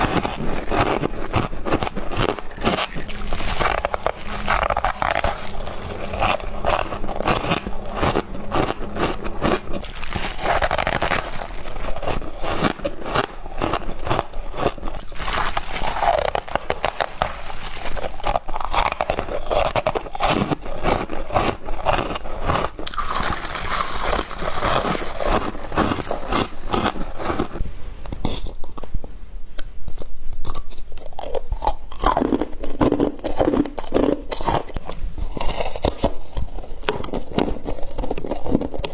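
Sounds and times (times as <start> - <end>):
frost being chewed crunching: 0.0 - 27.6, 29.6 - 38.9.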